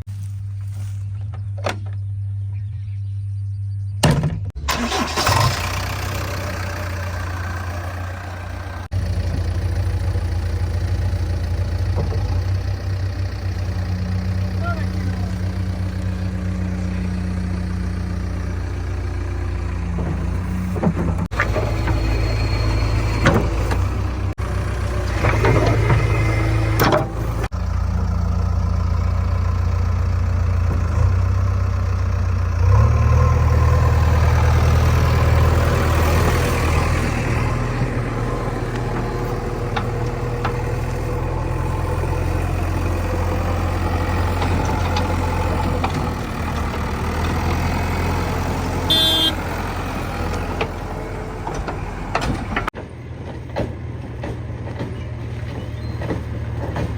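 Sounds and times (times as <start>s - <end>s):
diesel engine running: 4.5s - 56.9s.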